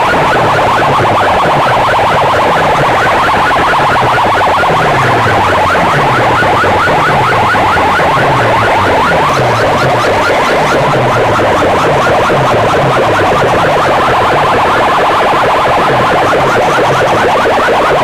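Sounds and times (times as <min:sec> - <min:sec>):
loud distorted dj music: 0:00.0 - 0:18.0
falling bass sweeps: 0:02.4 - 0:17.1.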